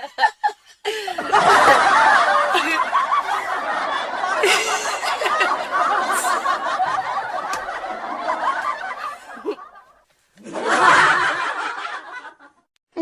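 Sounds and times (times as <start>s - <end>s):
people laughing: 0.0s - 12.7s.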